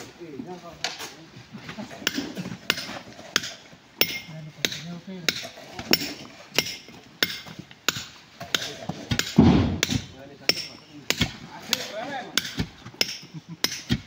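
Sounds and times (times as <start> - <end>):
hammer striking rock: 2.0 - 14.0.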